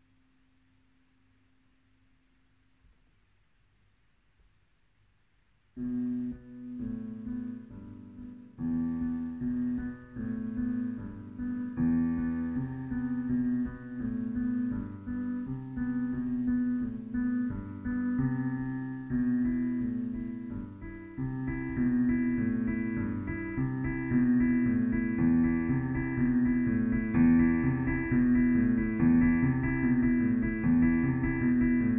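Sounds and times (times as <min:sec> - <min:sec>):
digital piano playing chords: 0:05.8 - 0:31.9.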